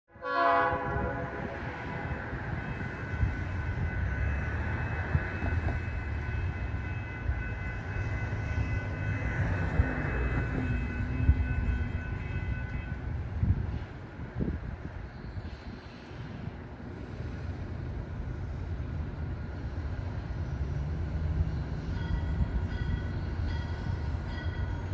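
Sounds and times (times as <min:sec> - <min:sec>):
distant diesel locomotive rumble: 0:00.2 - 0:24.9.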